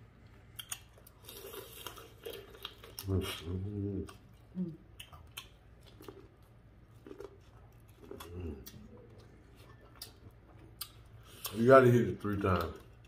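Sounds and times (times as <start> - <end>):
soft low hums: 0.0 - 13.0.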